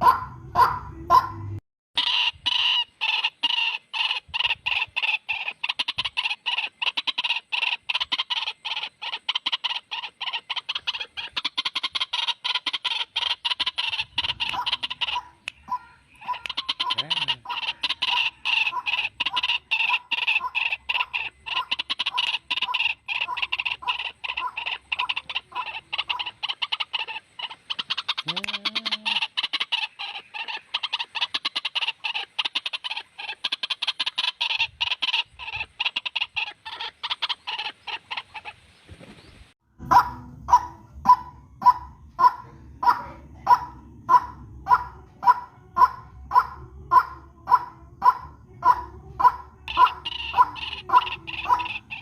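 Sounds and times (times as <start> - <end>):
waterhen calls: 0.0 - 52.0.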